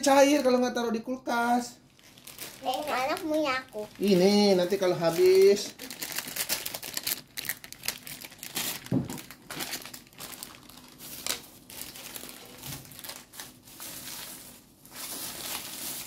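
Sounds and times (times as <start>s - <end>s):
plastic wrapper crinkling: 1.8s - 16.0s.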